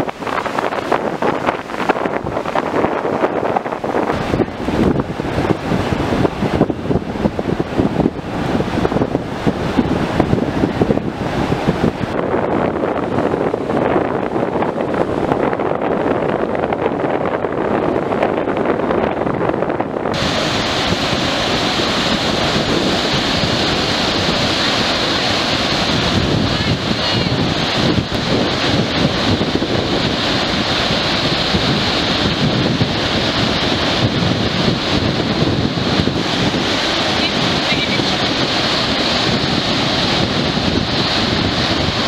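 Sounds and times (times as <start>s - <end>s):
surf breaking on beach: 0.0s - 42.0s
wind buffeting microphone: 0.0s - 42.0s.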